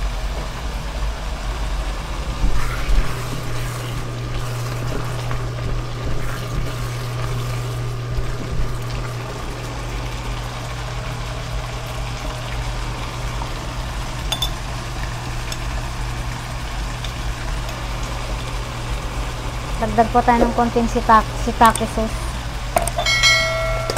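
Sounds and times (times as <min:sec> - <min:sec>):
constant low hum: 0:00.0 - 0:23.9
food sizzling in a wok: 0:00.0 - 0:23.9.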